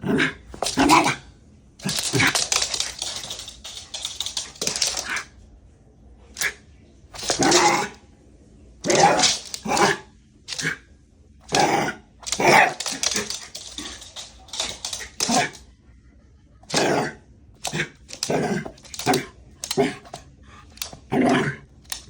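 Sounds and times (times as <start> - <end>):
dog barking and growling: 0.0 - 5.3, 7.2 - 8.0, 8.8 - 10.8, 11.4 - 15.7, 16.6 - 22.0.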